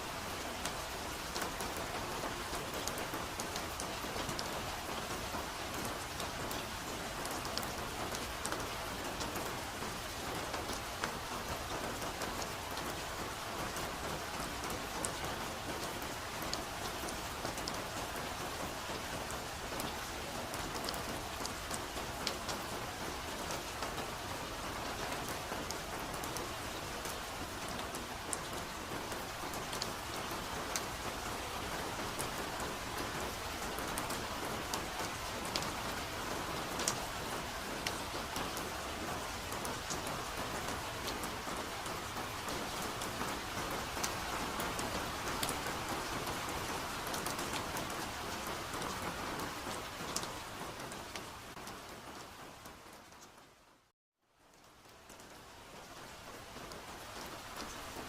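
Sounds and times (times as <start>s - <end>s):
steady rain hiss: 0.0s - 58.0s
raindrops ticking close by: 0.1s - 53.6s, 54.3s - 58.0s.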